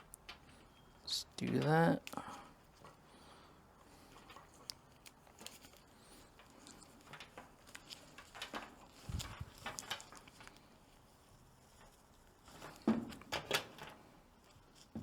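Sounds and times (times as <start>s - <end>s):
wires and tape rustling: 0.0s - 15.0s.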